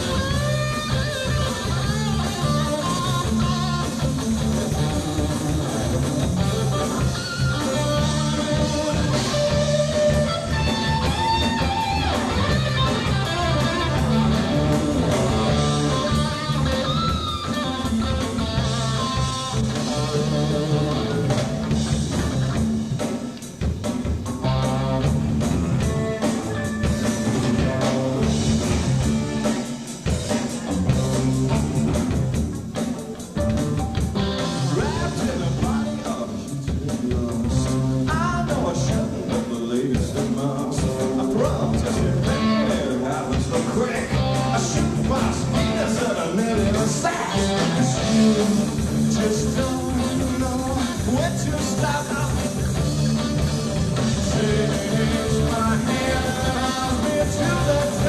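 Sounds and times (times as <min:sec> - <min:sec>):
electric guitar melody: 0:00.0 - 0:36.8, 0:41.0 - 0:58.0
bass guitar: 0:00.0 - 0:58.0
drum kit: 0:00.0 - 0:58.0.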